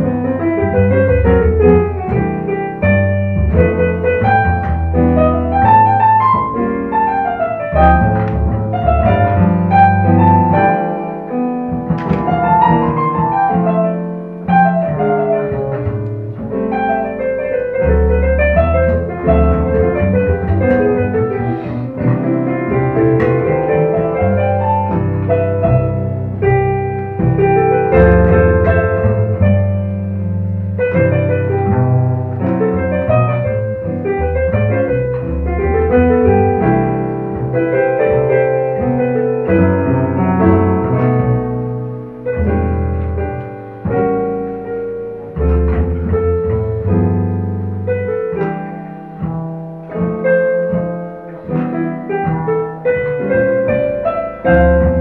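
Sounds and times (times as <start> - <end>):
double bass playing: 0.0 - 55.0
piano playing: 0.0 - 55.0.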